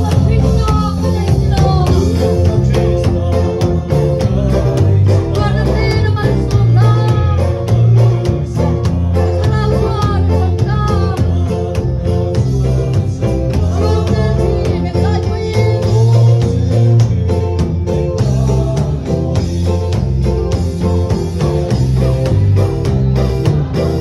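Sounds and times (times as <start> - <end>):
congregation singing a hymn: 0.0 - 24.0
instrumental accompaniment: 0.0 - 24.0
steady drum beat: 0.0 - 24.0.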